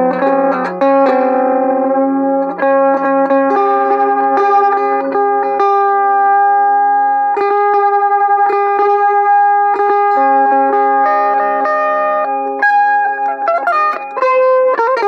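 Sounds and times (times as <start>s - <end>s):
electric mandolin picked notes: 0.0s - 15.0s.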